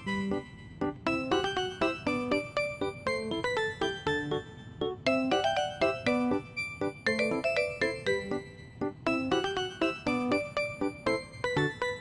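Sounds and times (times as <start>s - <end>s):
bouncy keyboard tune: 0.0s - 12.0s.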